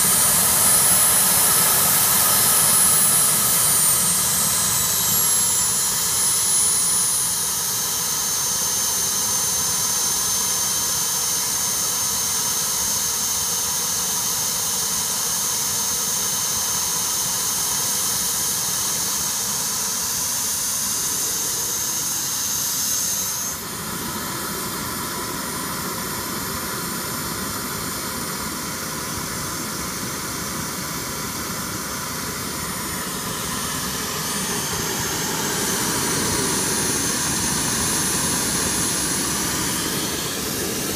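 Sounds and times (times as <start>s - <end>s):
turbine engine idling: 0.0s - 10.0s, 17.3s - 40.9s
turbine high whine: 0.0s - 40.9s.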